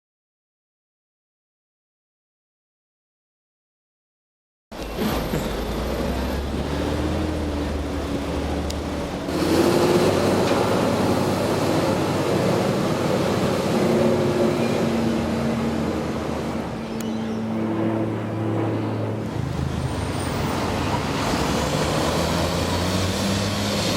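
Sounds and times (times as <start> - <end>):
garbage truck diesel engine: 4.7 - 23.9.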